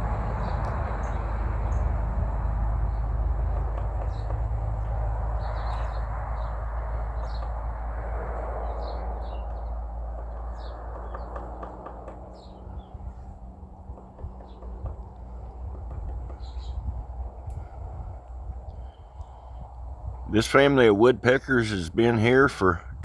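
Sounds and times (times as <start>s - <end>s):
birds chirping: 0.0s - 23.0s
low rumbling background noise: 0.0s - 23.0s.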